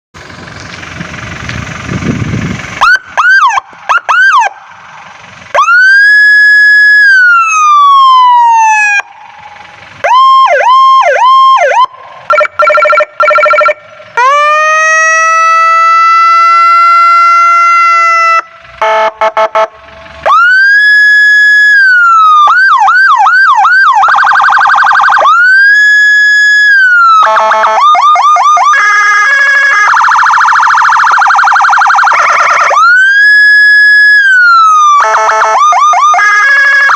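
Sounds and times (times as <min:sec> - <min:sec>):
electronic siren cycling through tones: 0:02.8 - 0:36.9.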